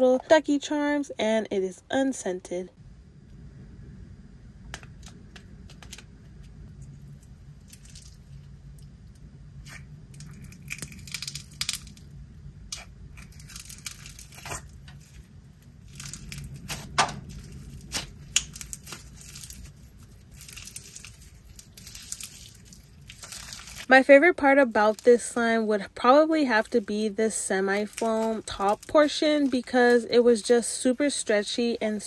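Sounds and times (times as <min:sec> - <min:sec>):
slime crackling and popping: 0:04.7 - 0:32.0.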